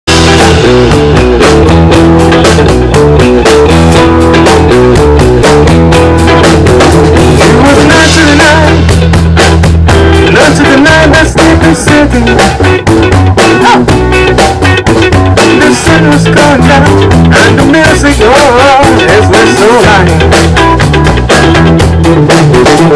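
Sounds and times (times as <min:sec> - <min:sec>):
electric bass: 0:00.0 - 0:22.9
drum kit beat: 0:00.1 - 0:22.9
electric guitar: 0:00.1 - 0:22.9.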